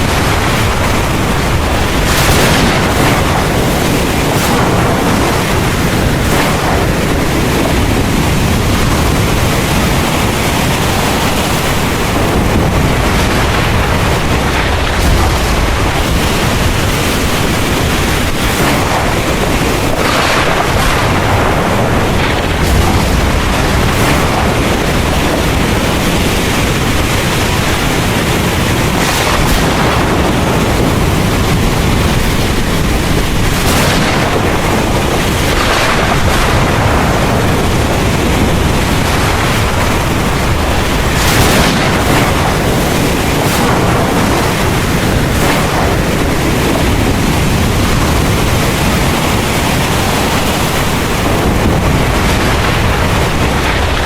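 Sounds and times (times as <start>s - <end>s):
deep thunder rumble: 0.0s - 54.0s
heavy rain pouring: 0.0s - 54.0s.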